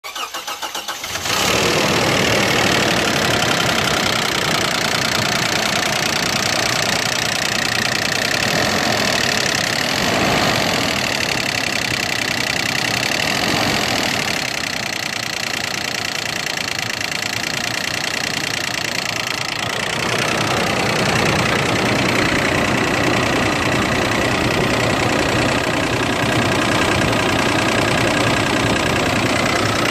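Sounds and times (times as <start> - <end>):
car engine rattling: 0.0 - 29.9.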